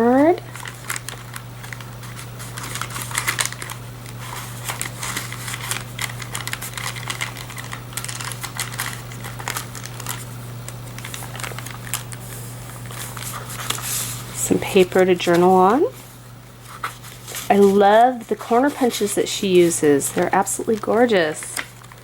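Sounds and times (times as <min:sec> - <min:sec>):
steady low hum: 0:00.0 - 0:22.0
paper rustling and crinkling: 0:00.4 - 0:22.0.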